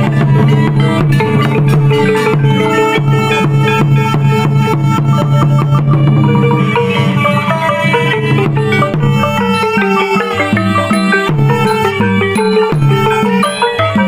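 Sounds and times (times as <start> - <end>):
drums: 0.0 - 14.0
tuned percussion notes: 0.0 - 14.0.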